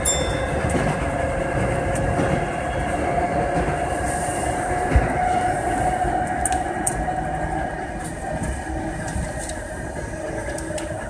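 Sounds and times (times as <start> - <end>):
electric train rumbling in tunnel: 0.0 - 11.0.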